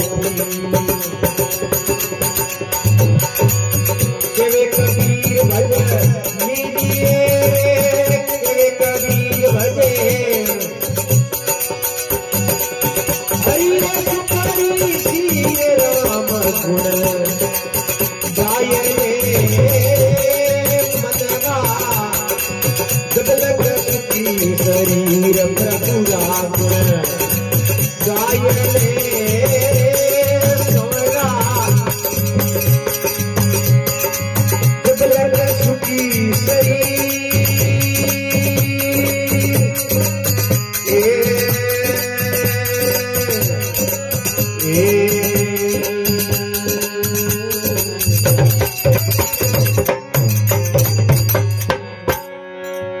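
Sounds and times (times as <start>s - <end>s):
hand cymbals jingling: 0.0s - 52.9s
dholak drum beat: 0.0s - 53.0s
harmonium melody: 0.0s - 53.0s.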